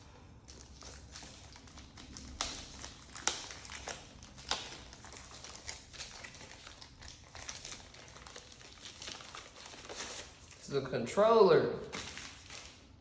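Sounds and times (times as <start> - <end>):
packaging rustling: 0.4 - 10.6, 11.8 - 13.0.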